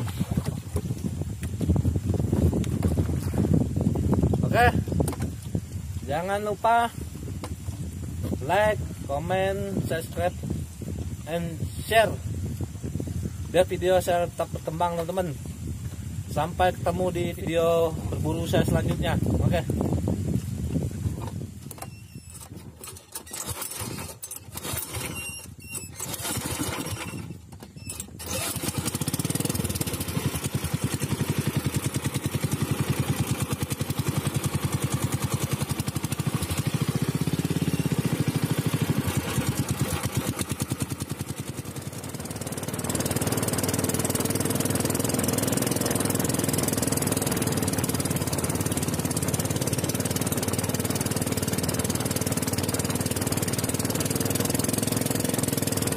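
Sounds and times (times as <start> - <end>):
small boat engine running: 0.0 - 12.0, 16.8 - 55.9.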